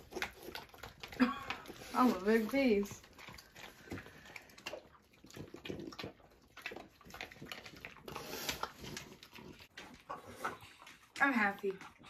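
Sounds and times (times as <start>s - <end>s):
dog eating and licking: 0.0s - 12.0s.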